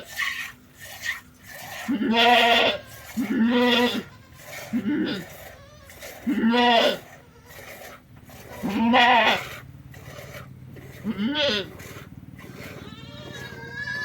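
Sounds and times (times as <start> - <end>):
goat bleating: 1.6 - 9.6, 10.7 - 14.0.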